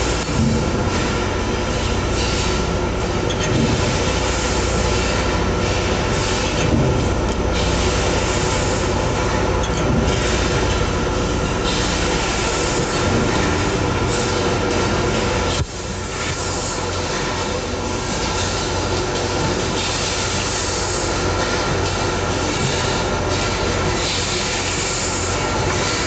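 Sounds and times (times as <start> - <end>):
production machinery running: 0.0 - 26.0.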